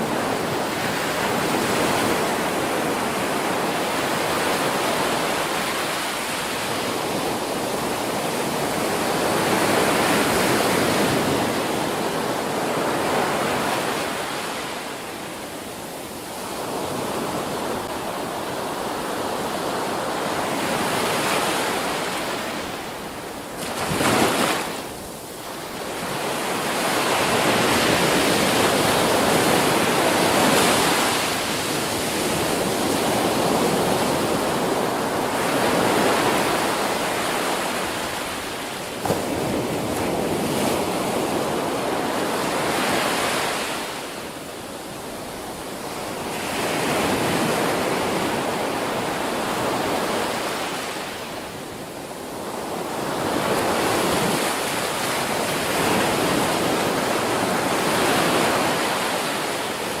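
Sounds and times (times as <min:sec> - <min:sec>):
ocean waves breaking on beach: 0:00.0 - 1:00.0.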